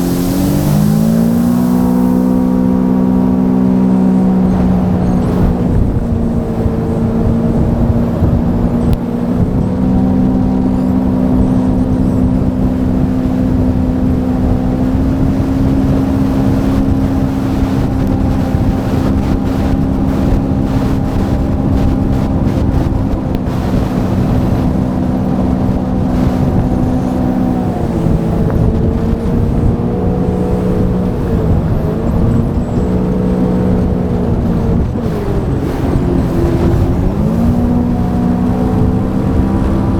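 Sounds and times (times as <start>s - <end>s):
jet ski engine running: 0.0s - 39.9s
rush of wind and water: 0.0s - 39.9s.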